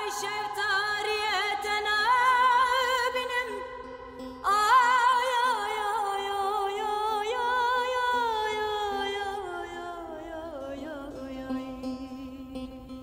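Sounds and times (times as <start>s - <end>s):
person singing ornamented melody: 0.0s - 13.0s.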